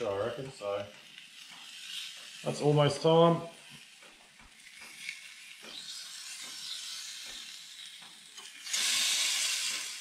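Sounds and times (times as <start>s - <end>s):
steak sizzling on grill: 0.0s - 10.0s.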